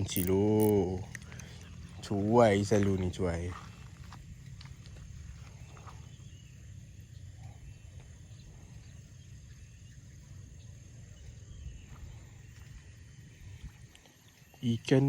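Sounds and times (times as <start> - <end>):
low rumble: 0.0 - 14.0
high insect drone: 0.0 - 15.0.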